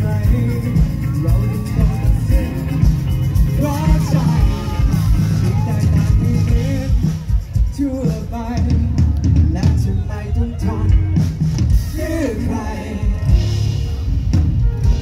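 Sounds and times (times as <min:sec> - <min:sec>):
man singing: 0:00.0 - 0:14.0
live rock band playing: 0:00.0 - 0:15.0.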